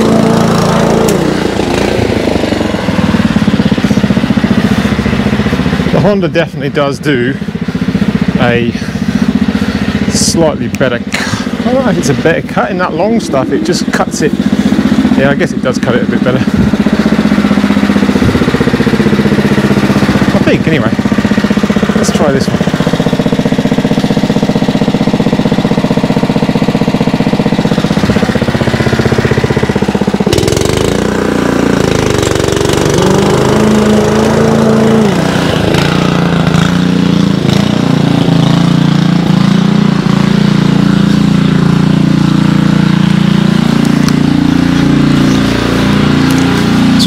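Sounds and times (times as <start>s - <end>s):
lawn mower engine running: 0.0s - 47.0s.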